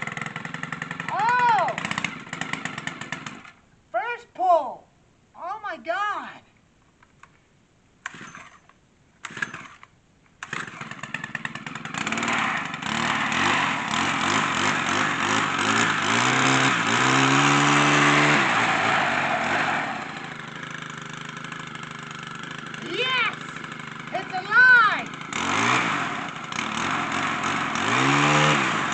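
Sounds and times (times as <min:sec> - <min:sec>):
brush trimmer engine starting and revving: 0:00.0 - 0:03.6, 0:08.0 - 0:28.9.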